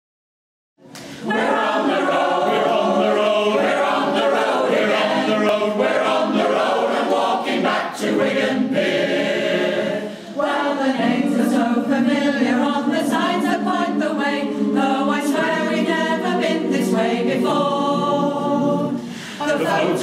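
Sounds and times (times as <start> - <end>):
choir singing: 1.2 - 20.0.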